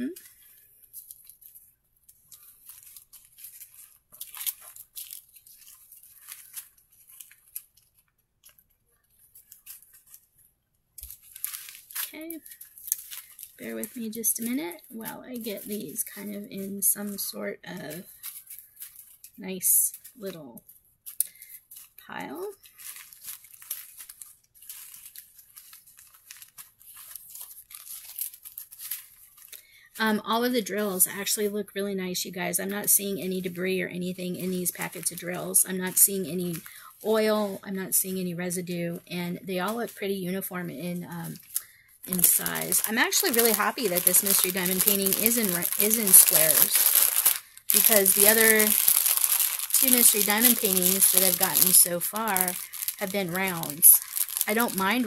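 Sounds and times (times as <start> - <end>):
plastic bags crinkling: 0.0 - 31.5, 32.6 - 37.7, 39.6 - 55.0.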